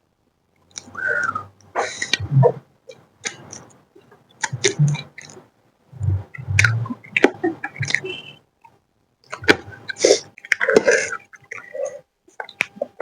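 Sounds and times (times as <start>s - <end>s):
mouth smacks and clicks: 0.7s - 5.4s, 6.0s - 13.0s.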